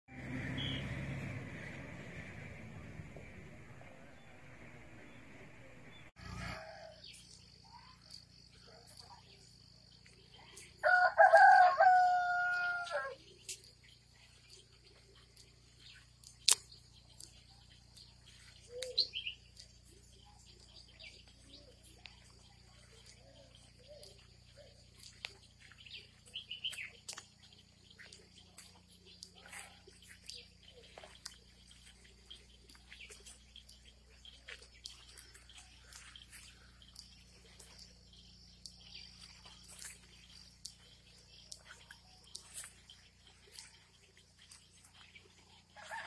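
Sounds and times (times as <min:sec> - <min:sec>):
faint bird chirps: 0:00.4 - 0:01.0, 0:03.6 - 0:46.0.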